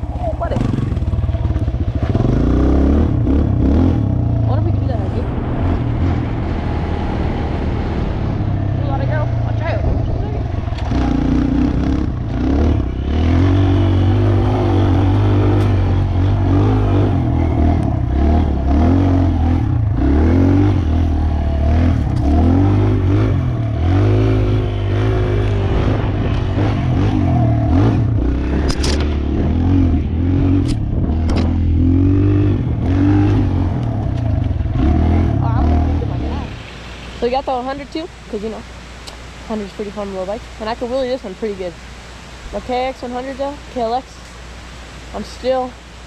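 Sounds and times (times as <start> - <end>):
dirt bike engine revving: 0.0 - 38.6.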